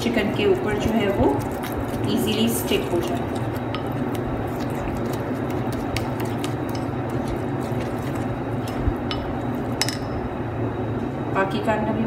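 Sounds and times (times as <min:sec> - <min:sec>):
spoon stirring thick marinade: 0:00.0 - 0:09.9.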